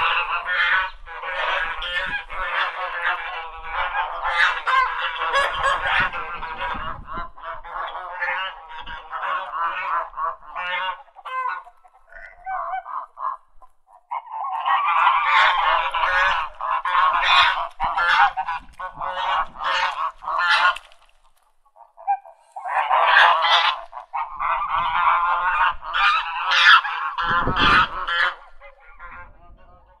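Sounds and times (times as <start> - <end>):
ducks quacking: 0.0 - 30.0.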